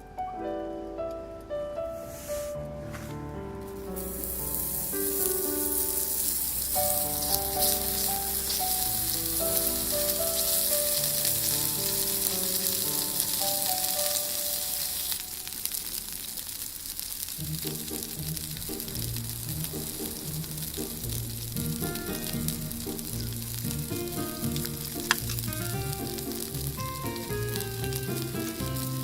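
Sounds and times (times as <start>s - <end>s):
background music: 0.0s - 15.2s, 17.3s - 29.0s
food sizzling in a frying pan: 3.7s - 29.0s.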